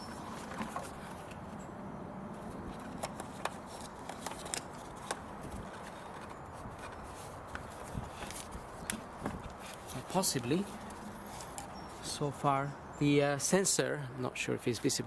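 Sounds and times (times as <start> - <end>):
background noise: 0.0 - 15.0.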